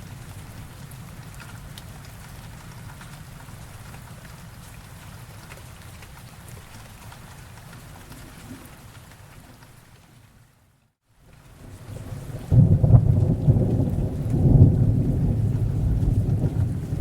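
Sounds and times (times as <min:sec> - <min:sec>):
raindrops ticking: 0:00.0 - 0:10.1, 0:11.3 - 0:17.0
steady rain falling: 0:00.0 - 0:17.0.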